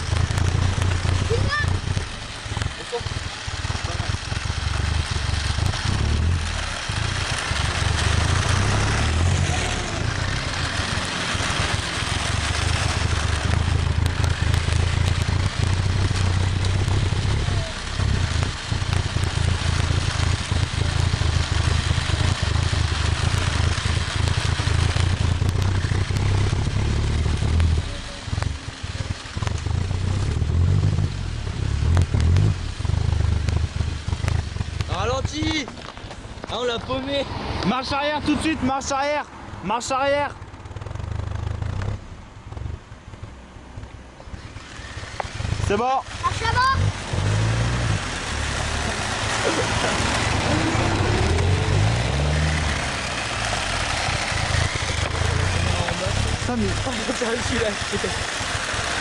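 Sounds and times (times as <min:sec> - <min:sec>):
vehicle running rumble and hiss: 0:00.0 - 0:59.0.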